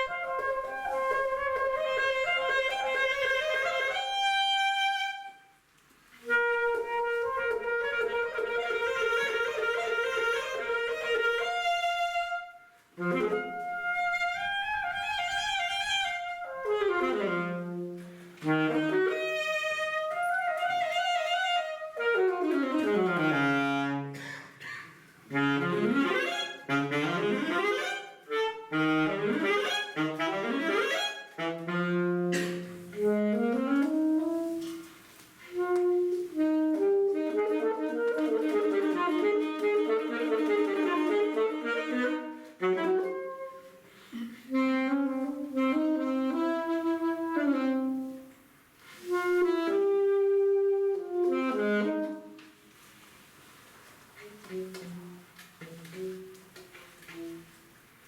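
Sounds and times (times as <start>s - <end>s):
saxophone playing fast melody: 0.0s - 5.6s, 6.2s - 24.2s, 25.2s - 52.6s, 54.2s - 57.7s.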